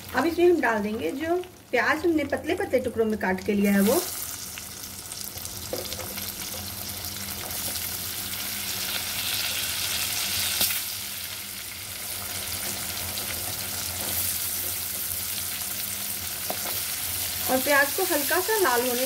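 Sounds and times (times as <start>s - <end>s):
onions sizzling in oil: 0.0s - 19.0s.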